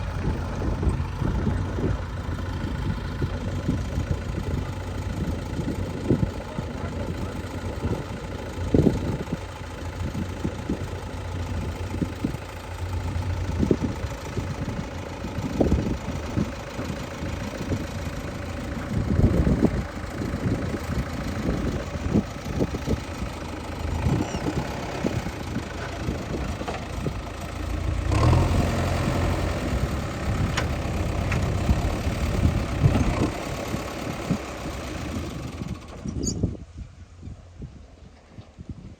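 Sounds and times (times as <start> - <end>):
diesel machinery engine running: 0.0 - 38.3.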